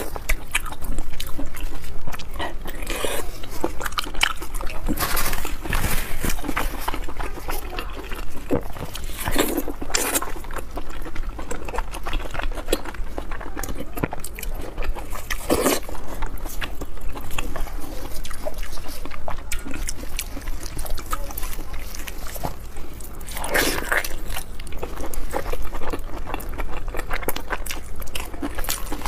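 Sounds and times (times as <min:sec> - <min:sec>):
wet chewing and sucking: 0:00.0 - 0:29.0.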